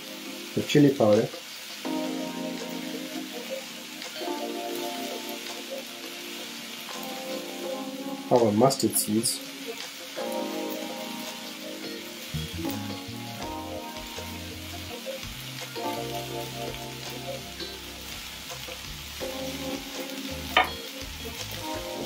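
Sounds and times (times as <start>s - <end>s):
seeds sizzling in hot oil: 0.0s - 22.0s.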